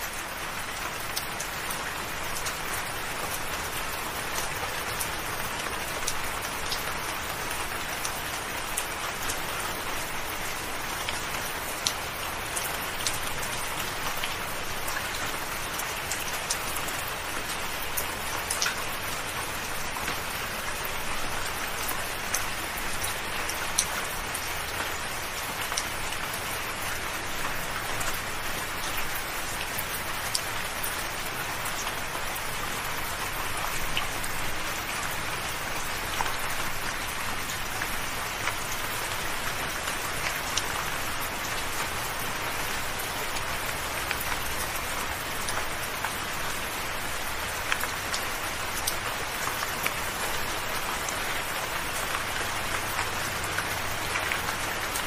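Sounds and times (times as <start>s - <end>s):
soft rain hissing: 0.0s - 55.0s.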